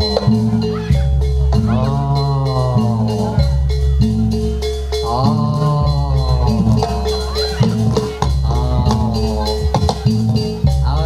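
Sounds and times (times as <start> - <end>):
bending melody line: 0.0 - 11.0
gamelan percussion: 0.0 - 11.0.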